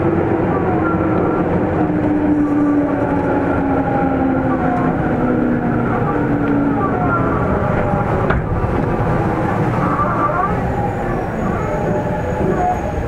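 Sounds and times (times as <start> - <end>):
train motors whining: 0.0 - 13.0
wheels rumbling on rail: 0.0 - 13.0.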